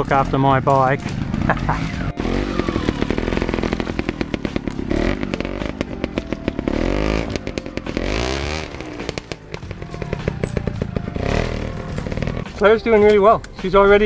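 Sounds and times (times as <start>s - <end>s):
two-stroke motorcycle engine blipping: 0.0s - 13.2s.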